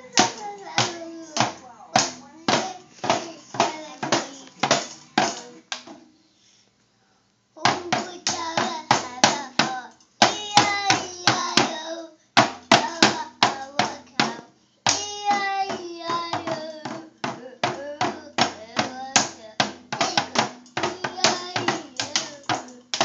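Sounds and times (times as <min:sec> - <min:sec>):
child beating drum kit: 0:00.0 - 0:06.1, 0:07.6 - 0:23.0.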